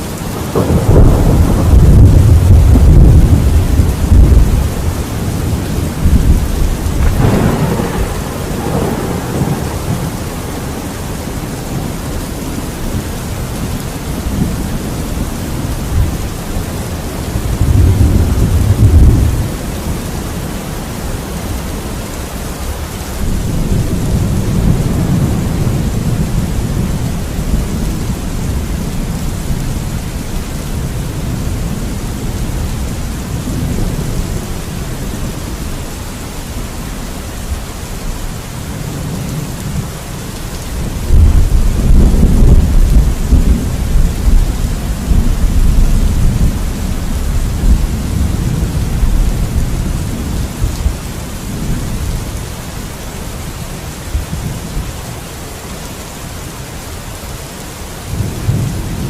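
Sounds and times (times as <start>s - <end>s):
thunder rumbling: 0.0s - 21.9s, 23.0s - 52.9s
steady rain: 0.0s - 59.0s.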